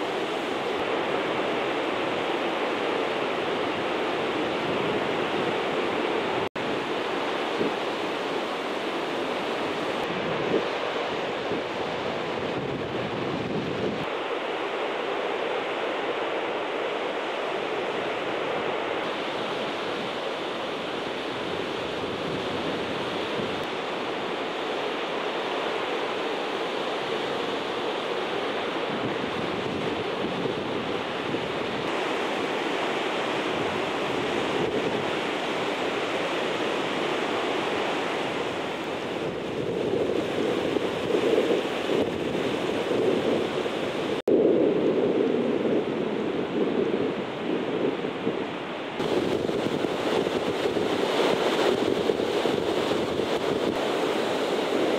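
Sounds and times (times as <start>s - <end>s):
waterfall roaring: 0.0s - 44.2s, 45.2s - 54.9s
wind on microphone: 0.0s - 54.9s.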